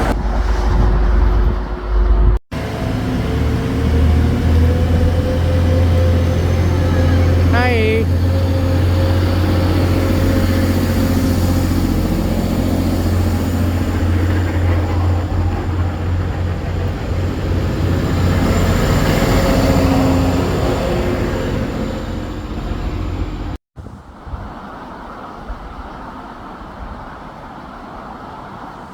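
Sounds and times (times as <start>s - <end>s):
train rumbling: 0.0s - 28.9s.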